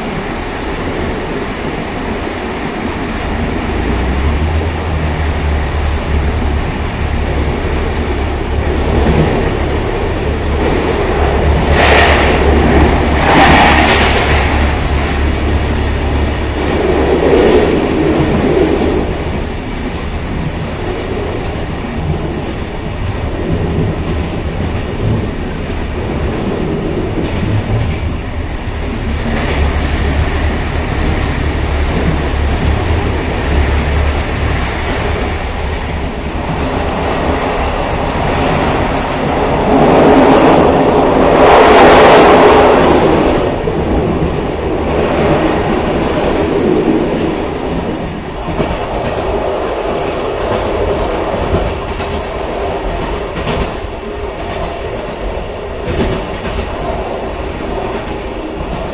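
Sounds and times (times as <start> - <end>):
railcar rumbling on rails: 0.0 - 58.9
wheel clickety-clack: 6.2 - 58.9.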